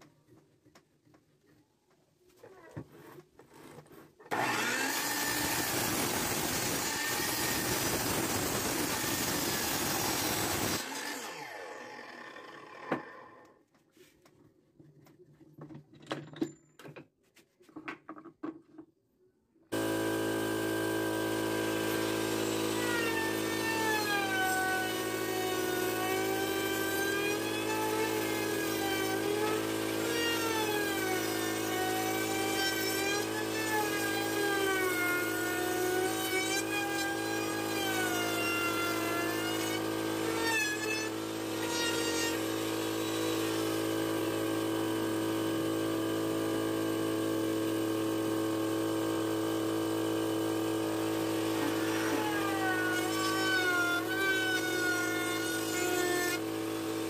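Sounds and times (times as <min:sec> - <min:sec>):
trim router whining: 0:04.3 - 0:13.5, 0:19.7 - 0:57.0.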